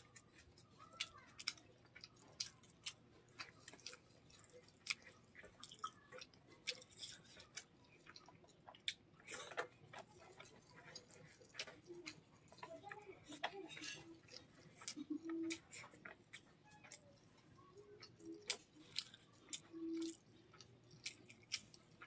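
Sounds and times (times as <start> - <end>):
close chewing of food: 0.0 - 22.0.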